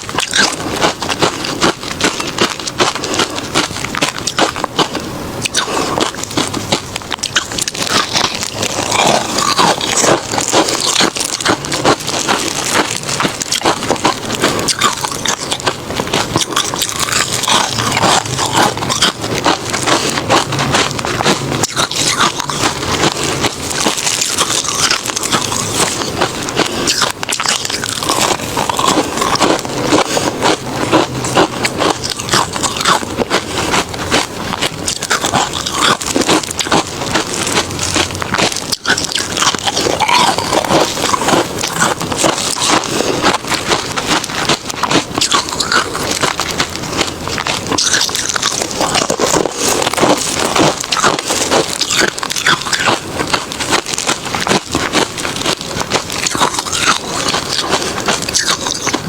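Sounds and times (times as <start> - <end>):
crushed ice being chewed: 0.0 - 59.0.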